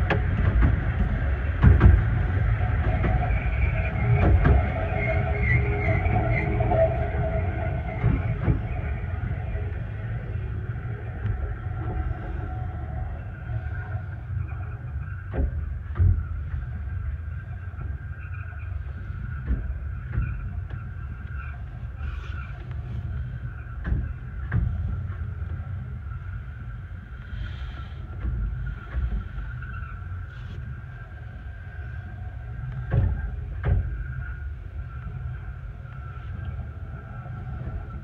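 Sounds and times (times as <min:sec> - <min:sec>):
faint steady whine: 0:00.0 - 0:38.0
train running along track: 0:00.0 - 0:38.0.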